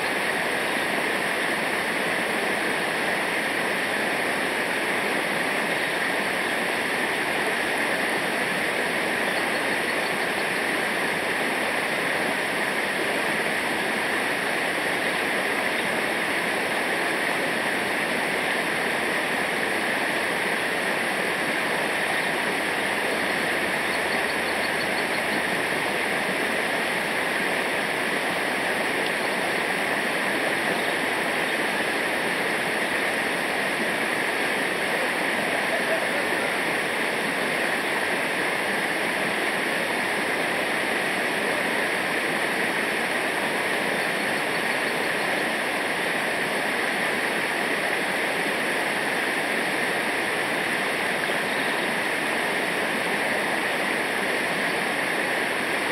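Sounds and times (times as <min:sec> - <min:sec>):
river water rushing: 0:00.0 - 0:55.9.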